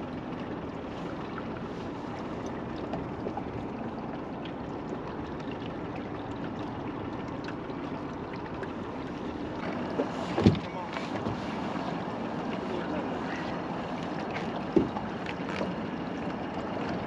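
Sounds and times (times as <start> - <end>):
faint drips and ticks: 0.0 - 17.0
water rushing and splashing: 0.0 - 17.0.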